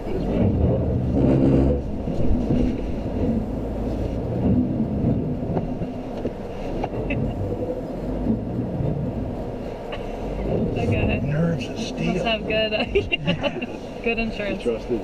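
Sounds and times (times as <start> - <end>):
vehicle rumbling through mud: 0.0 - 15.0.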